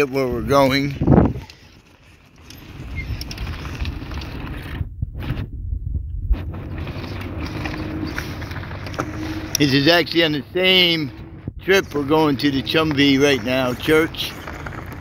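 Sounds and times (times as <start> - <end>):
car tyres rumbling on dirt road: 0.0 - 15.0.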